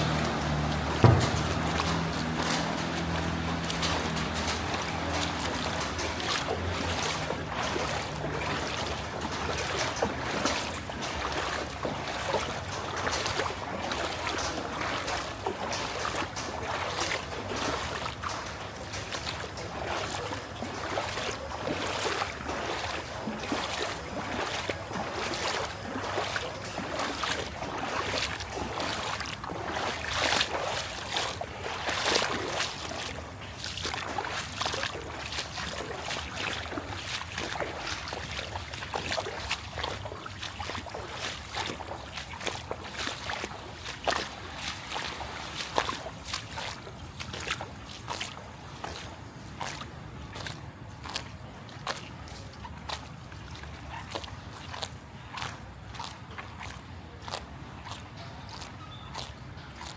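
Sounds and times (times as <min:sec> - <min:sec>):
continuous watery wash: 0:00.0 - 0:59.9
floodwater splashing and sloshing: 0:00.0 - 0:59.9.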